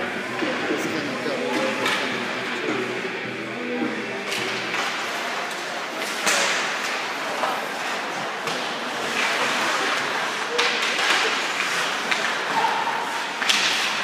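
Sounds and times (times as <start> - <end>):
stick and puck clacks: 0.3 - 2.9, 3.8 - 14.0.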